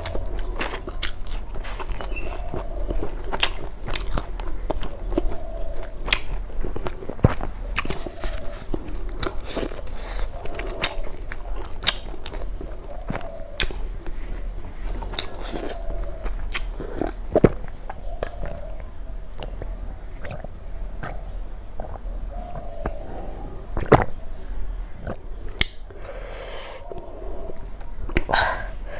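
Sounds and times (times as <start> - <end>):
person chewing: 0.0 - 24.2, 25.0 - 28.9
sharp wet clicks: 0.0 - 24.3, 25.0 - 28.4.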